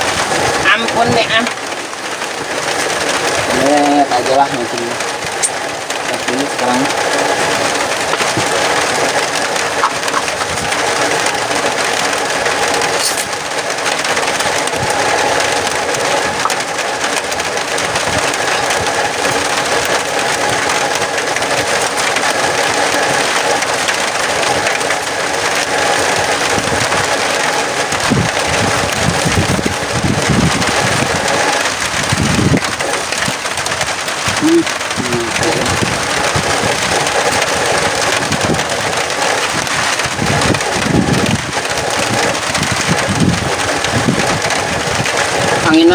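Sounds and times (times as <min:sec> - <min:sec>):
wind buffeting microphone: 0:00.0 - 0:45.9
strong wind blowing: 0:04.5 - 0:45.9.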